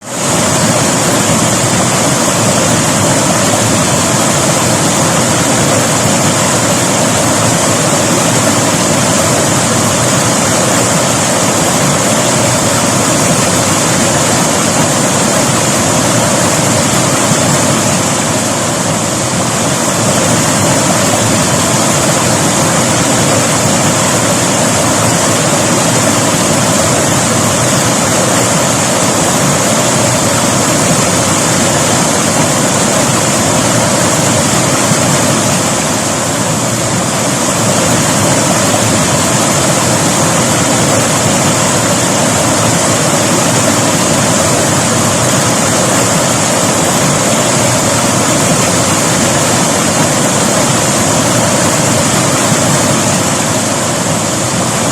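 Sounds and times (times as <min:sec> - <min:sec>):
river water rushing: 0:00.1 - 0:54.9.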